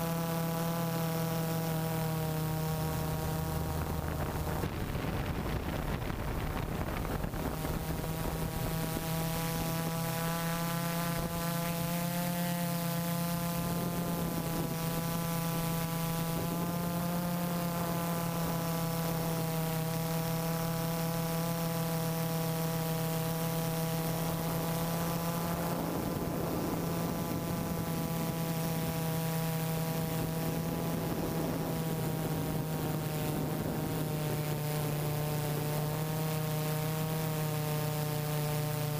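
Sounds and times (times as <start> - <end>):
drone propellers humming: 0.0 - 38.9.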